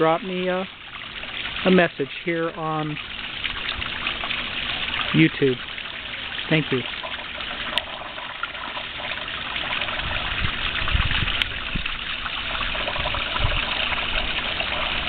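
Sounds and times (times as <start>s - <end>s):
water trickling into pond: 0.0s - 15.0s.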